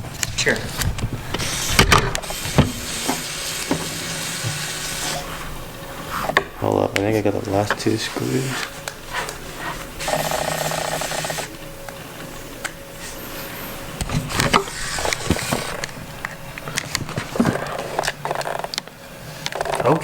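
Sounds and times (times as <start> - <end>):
steady buzz: 0.0 - 20.0.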